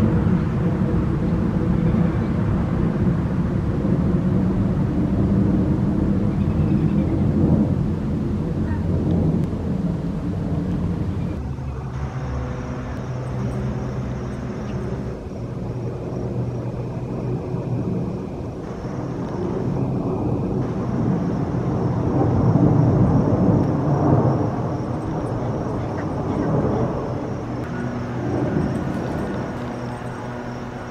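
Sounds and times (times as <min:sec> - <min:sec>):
jet airliner passing overhead: 0:00.0 - 0:30.9.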